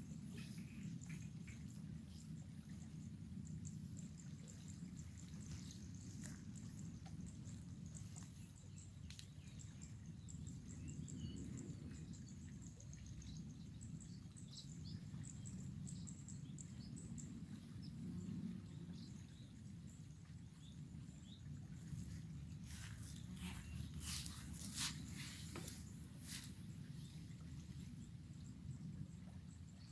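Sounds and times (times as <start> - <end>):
low steady rumble: 0.0 - 29.9
small birds chirping: 0.0 - 29.9.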